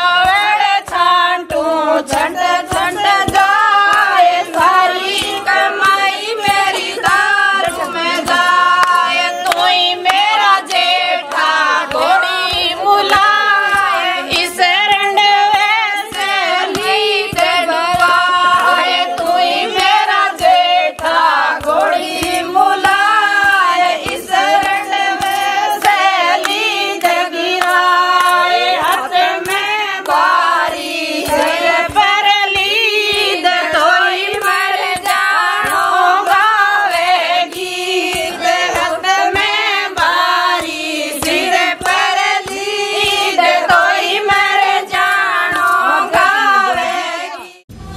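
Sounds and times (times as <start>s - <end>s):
hand claps: 0.0s - 47.6s
women singing a folk song: 0.0s - 47.7s.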